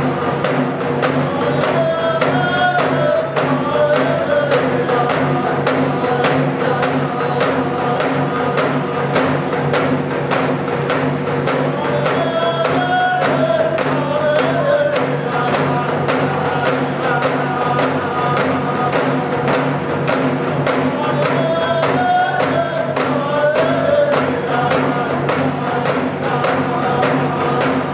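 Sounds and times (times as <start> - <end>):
percussive beat: 0.0 - 27.9.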